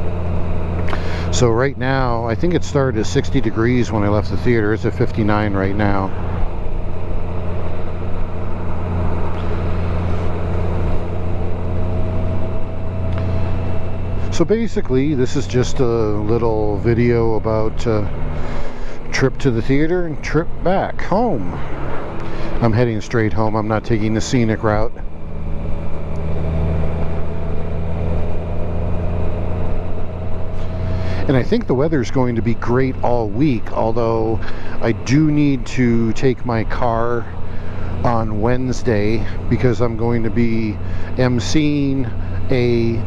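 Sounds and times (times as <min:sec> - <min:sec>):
motorcycle engine cruising: 0:00.0 - 0:43.0
wind and road noise: 0:00.0 - 0:43.0.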